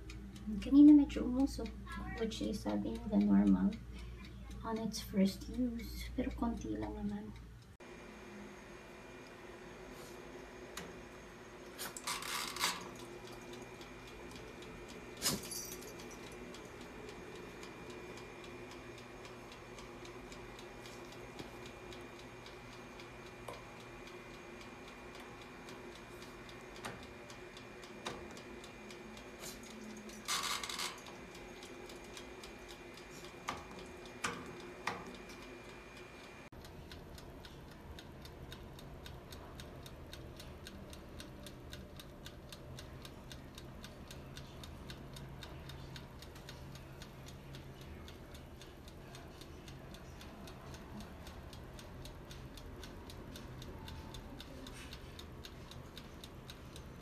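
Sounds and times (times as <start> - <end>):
mechanical timer ticking: 0.0 - 7.8, 10.5 - 57.0
faint steady hum: 0.0 - 57.0.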